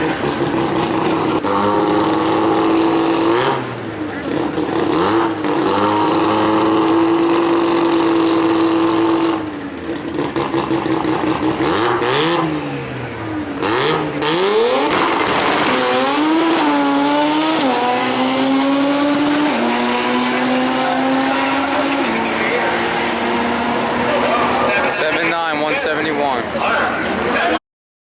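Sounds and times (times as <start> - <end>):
rotary engine revving: 0.0 - 26.0.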